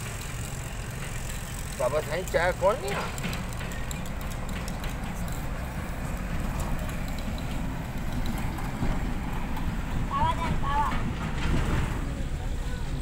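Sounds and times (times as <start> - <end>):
heavy truck engine rumble: 0.0 - 13.0.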